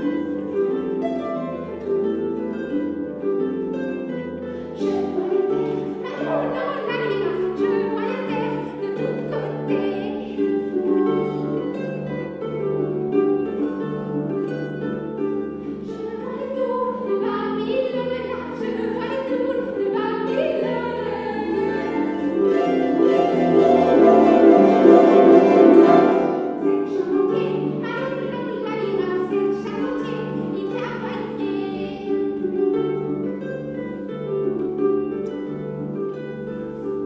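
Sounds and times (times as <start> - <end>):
harp playing slow tune: 0.0 - 37.0.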